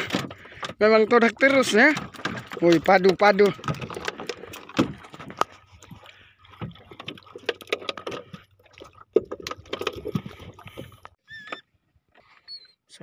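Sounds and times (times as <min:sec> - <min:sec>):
knocks and clatter in wooden boat: 0:00.0 - 0:11.6.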